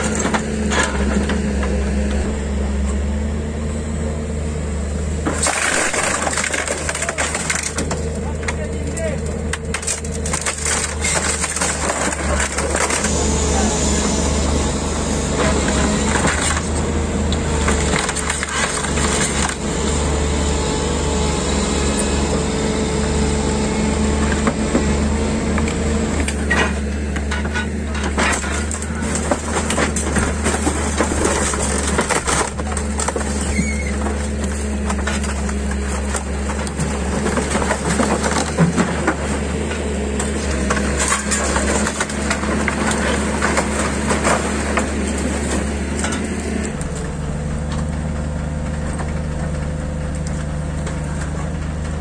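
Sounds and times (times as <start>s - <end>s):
debris crunching and cracking: 0.0s - 2.6s, 5.2s - 22.4s, 23.0s - 52.0s
excavator engine running: 0.0s - 52.0s.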